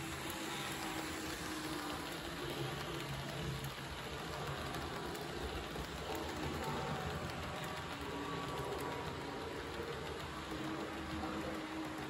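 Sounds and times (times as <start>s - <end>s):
model train wheels rattling: 0.0s - 12.0s.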